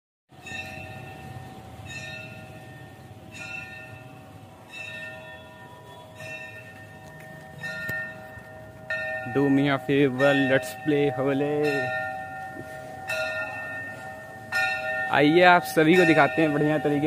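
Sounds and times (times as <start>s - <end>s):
bell-like chime: 0.4s - 17.0s.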